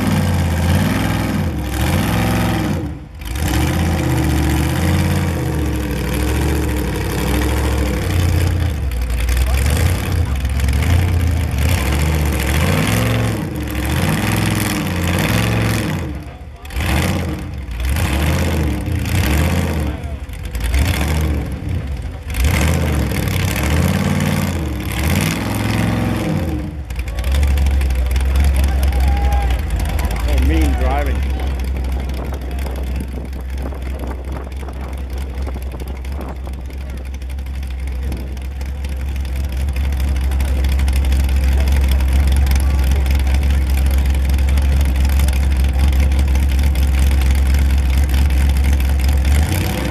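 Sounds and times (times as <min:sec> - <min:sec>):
car engine revving: 0:00.0 - 0:49.9
people's voices: 0:04.6 - 0:23.8, 0:24.8 - 0:49.9.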